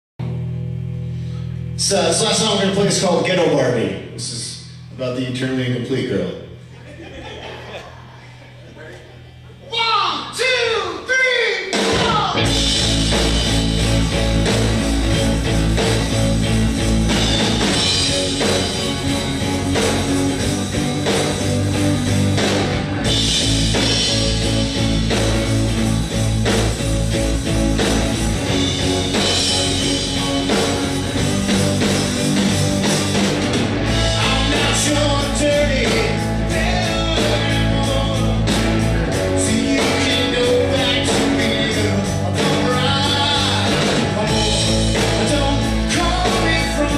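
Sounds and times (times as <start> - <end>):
live rock band playing: 0.2 - 6.7, 9.2 - 46.9.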